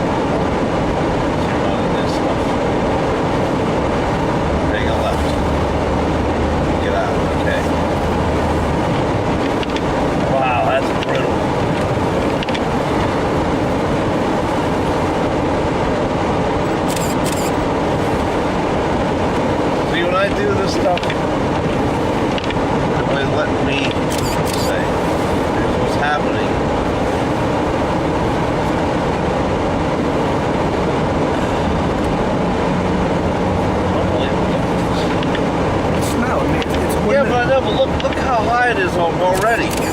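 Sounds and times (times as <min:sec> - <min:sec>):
vehicle rumble on snowy road: 0:00.0 - 0:39.9.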